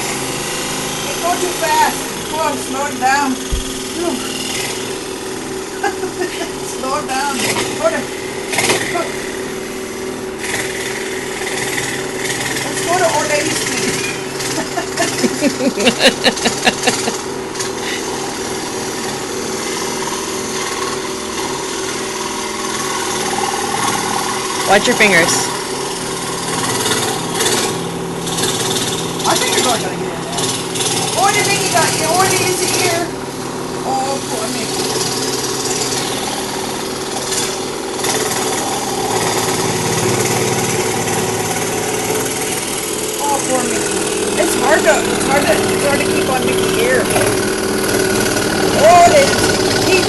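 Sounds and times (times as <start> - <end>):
electric saw cutting wood: 0.0 - 50.0.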